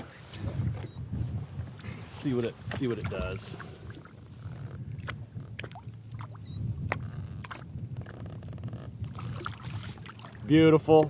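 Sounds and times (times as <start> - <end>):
wind and water chop on hull: 0.0 - 11.0
water sloshing and splashing: 1.6 - 11.0.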